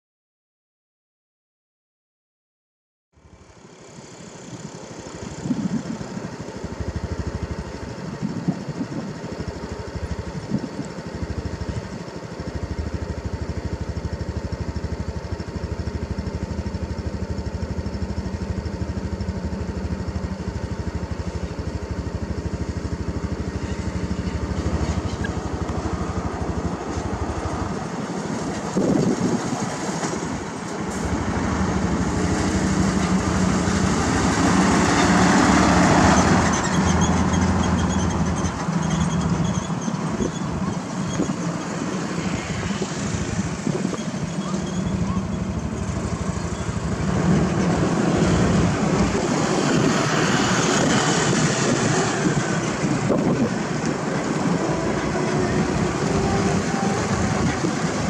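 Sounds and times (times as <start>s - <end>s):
diesel truck engine running: 3.2s - 58.0s.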